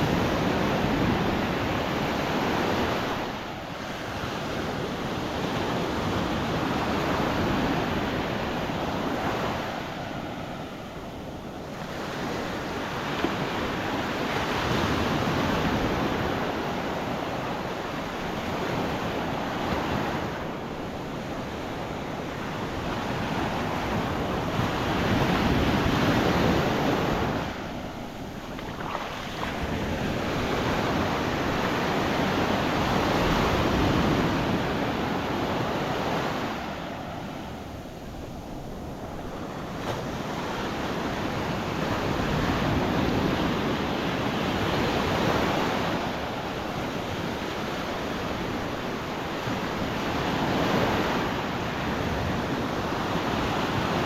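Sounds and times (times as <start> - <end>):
surf breaking on sand beach: 0.0 - 54.0
wind buffeting microphone: 0.0 - 54.0.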